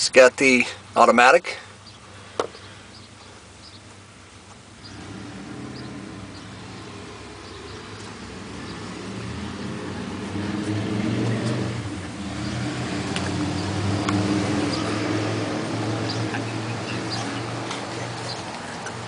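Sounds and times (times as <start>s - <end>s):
vehicle engine running: 2.0s - 19.0s.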